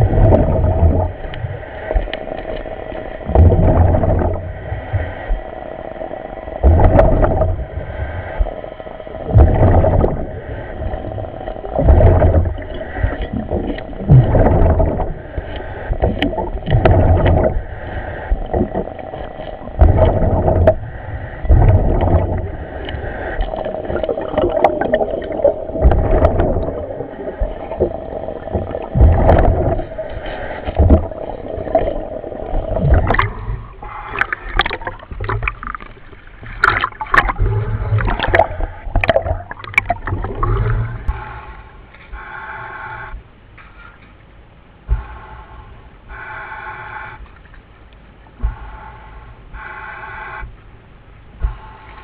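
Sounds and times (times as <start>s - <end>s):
diver breathing with bubbles: 0.0s - 43.2s.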